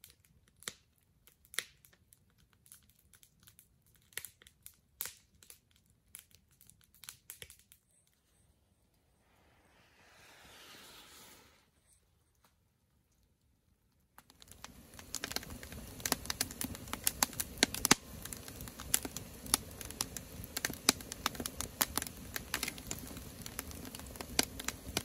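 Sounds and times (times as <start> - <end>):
wood fire crackling and popping: 0.0 - 8.2, 13.2 - 25.0.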